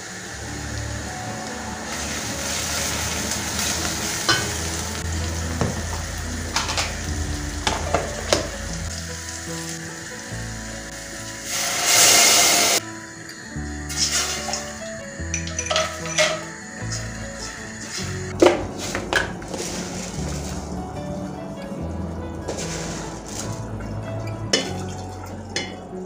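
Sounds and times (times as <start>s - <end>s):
food sizzling in a pan: 0.0s - 21.1s, 22.4s - 23.6s.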